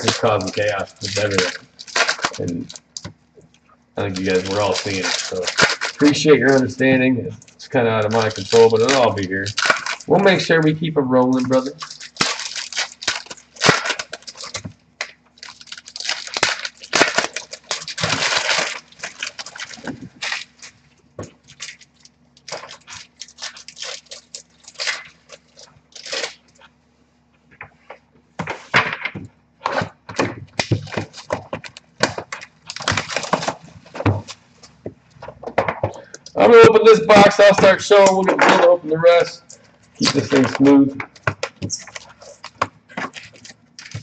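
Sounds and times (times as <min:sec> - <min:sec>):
packaging rustling and tearing: 0:00.0 - 0:03.2, 0:04.0 - 0:26.8, 0:28.4 - 0:44.0.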